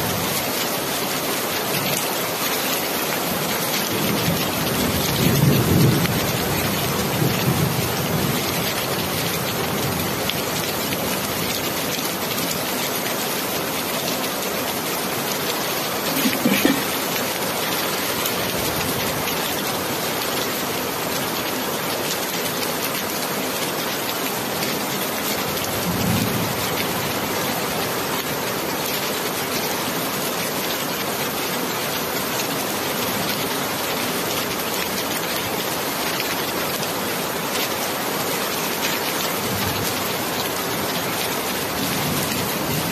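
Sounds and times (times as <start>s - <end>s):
heavy rain hissing: 0.0s - 42.9s.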